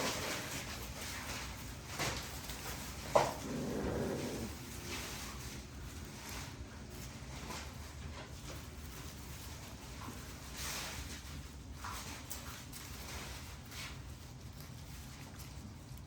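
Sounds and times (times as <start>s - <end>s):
puppies scuffling and rustling: 0.0s - 16.0s
steady low hum: 0.6s - 16.0s.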